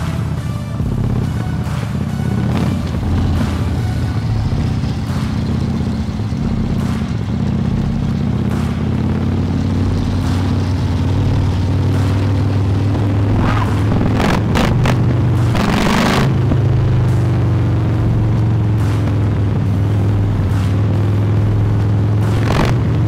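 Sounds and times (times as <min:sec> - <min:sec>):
motorcycle engines rumbling: 0:00.0 - 0:23.0.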